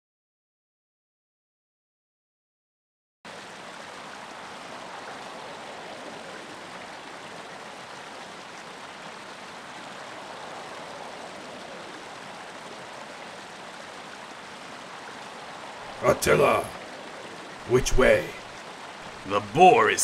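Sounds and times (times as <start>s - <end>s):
flowing river rushing: 3.3s - 20.0s.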